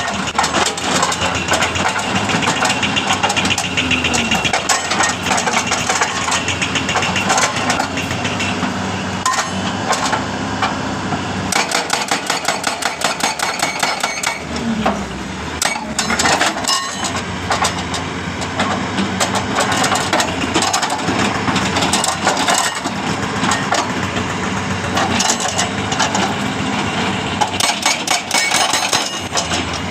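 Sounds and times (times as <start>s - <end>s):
diesel engine running: 0.0s - 29.9s
hydraulic breaker pounding rock: 0.0s - 29.9s.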